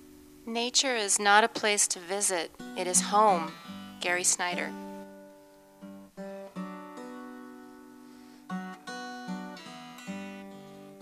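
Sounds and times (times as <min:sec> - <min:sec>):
acoustic guitar plucked chords: 0:00.0 - 0:11.0.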